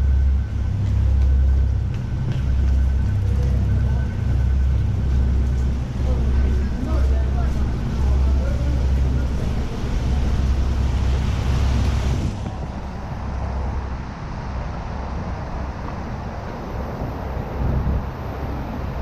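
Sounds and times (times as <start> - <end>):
city traffic noise: 0.0 - 19.0
wind rumbling on microphone: 0.0 - 19.0.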